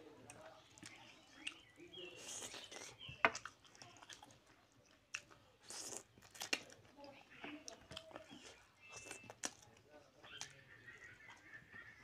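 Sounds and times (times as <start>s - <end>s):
wet chewing and mouth smacks: 0.2s - 10.6s.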